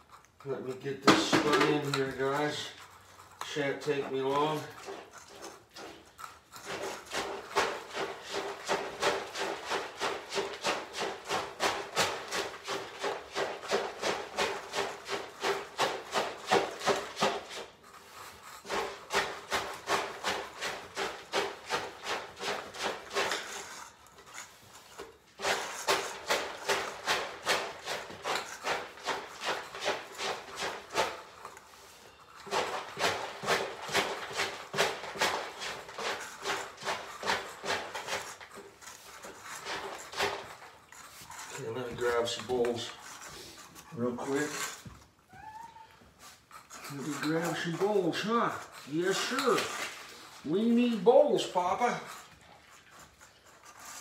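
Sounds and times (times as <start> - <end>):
spoon stirring cat food: 0.0 - 54.0.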